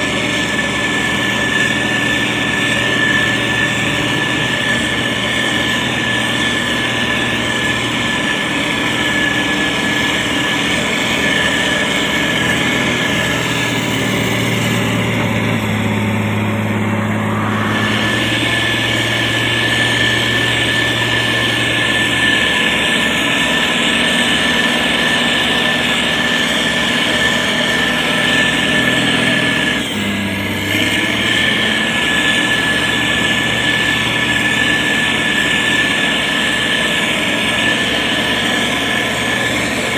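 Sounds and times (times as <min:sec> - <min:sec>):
diesel engine with high whine: 0:00.0 - 0:39.9.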